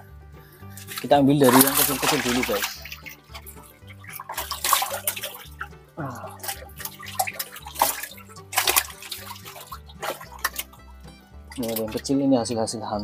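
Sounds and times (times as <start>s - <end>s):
background music with low notes: 0.0s - 13.0s
muddy water sloshing and splashing: 0.4s - 12.2s.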